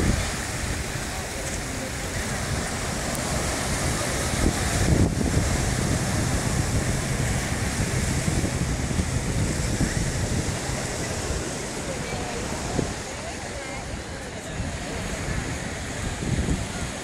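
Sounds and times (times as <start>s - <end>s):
waves washing on beach: 0.0s - 17.0s
wind buffeting microphone: 0.0s - 17.0s.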